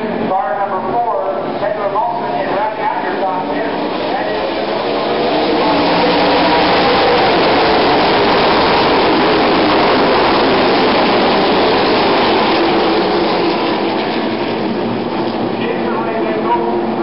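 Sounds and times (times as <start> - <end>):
stock car engines roaring: 0.0 - 17.0.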